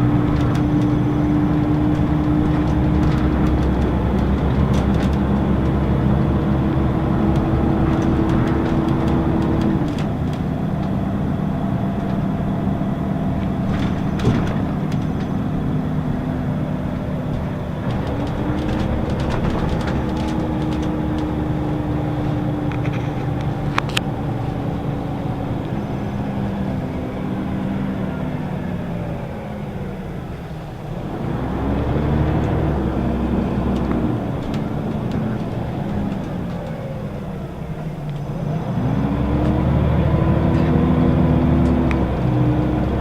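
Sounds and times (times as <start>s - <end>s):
bus engine from inside: 0.0s - 43.0s.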